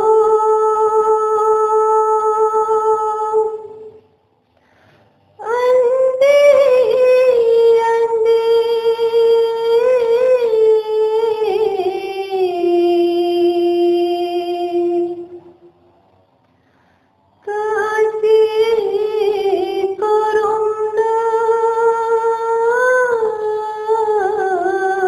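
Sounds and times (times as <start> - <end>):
woman singing: 0.0 - 4.0, 5.4 - 15.4, 17.4 - 25.0.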